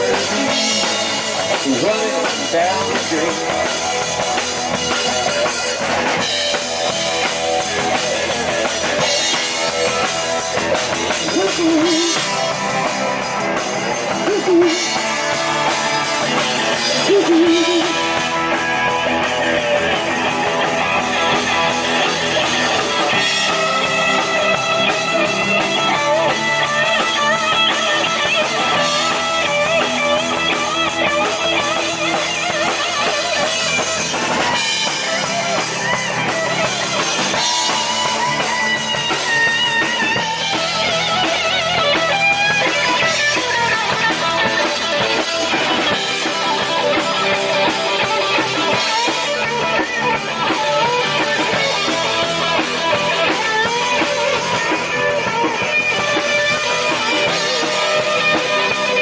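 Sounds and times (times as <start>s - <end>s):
electric guitar solo with bent notes: 0.0s - 59.0s
live rock band playing: 0.0s - 59.0s.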